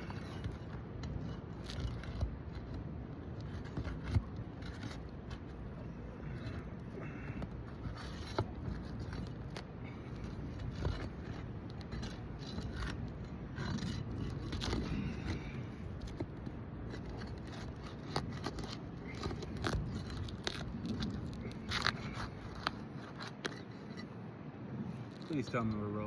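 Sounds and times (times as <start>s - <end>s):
wind on the microphone: 0.0s - 25.7s.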